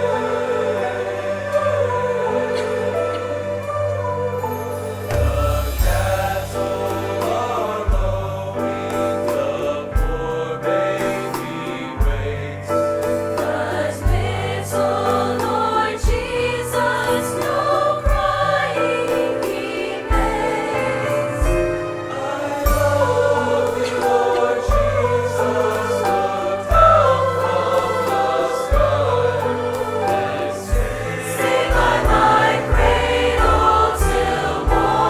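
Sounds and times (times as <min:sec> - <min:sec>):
band accompaniment: 0:00.0 - 0:35.0
choir singing: 0:00.0 - 0:35.0.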